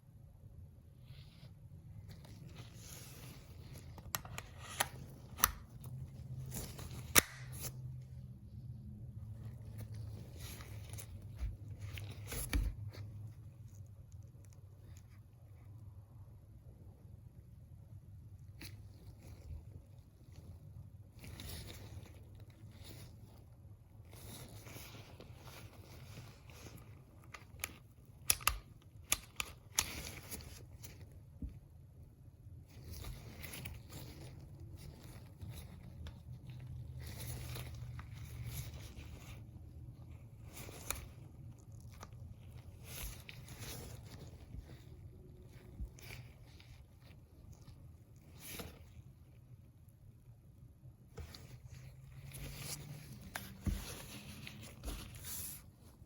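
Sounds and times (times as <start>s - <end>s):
hands rustling and scraping: 0.6s - 17.2s, 17.8s - 56.0s.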